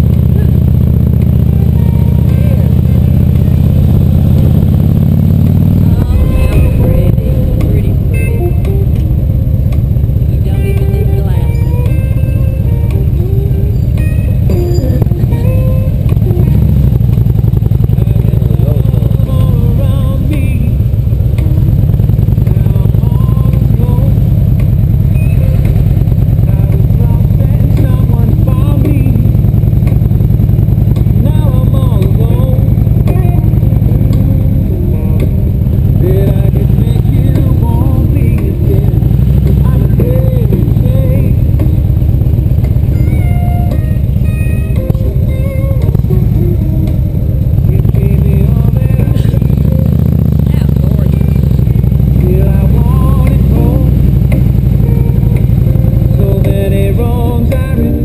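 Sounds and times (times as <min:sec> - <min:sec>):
motorcycle engine throbbing: 0:00.0 - 0:58.0.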